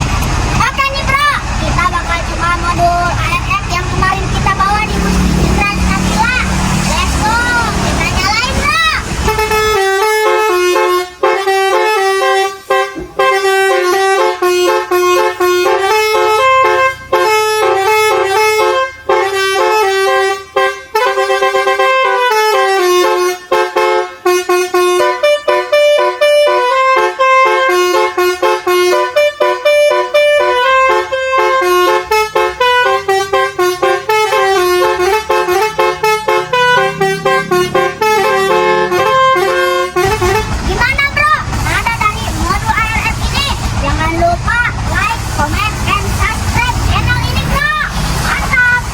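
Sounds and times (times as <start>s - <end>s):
air horn melody: 4.4s - 48.9s.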